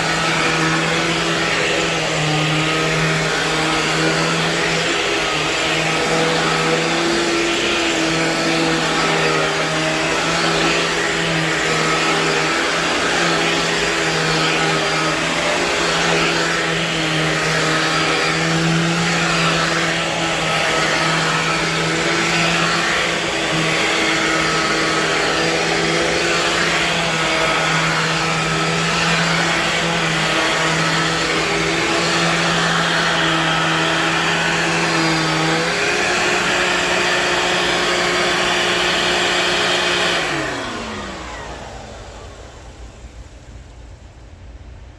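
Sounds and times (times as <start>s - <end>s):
vacuum cleaner running: 0.0s - 44.4s.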